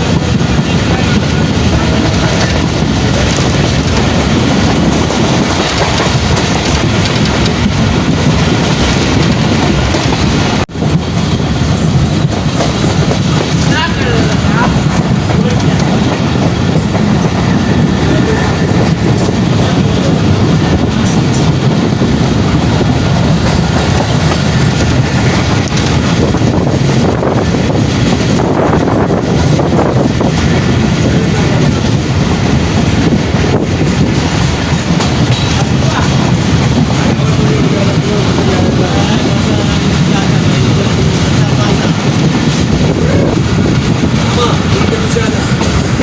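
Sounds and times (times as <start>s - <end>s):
train carriage rumbling on rails: 0.0s - 46.0s
wheel clatter over track: 0.0s - 46.0s.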